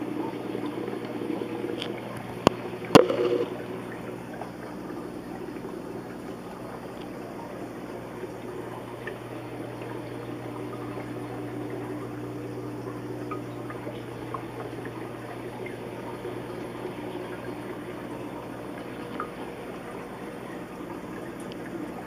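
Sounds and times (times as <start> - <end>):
aquarium water bubbling: 0.0 - 22.0
low filter motor hum: 0.0 - 22.0.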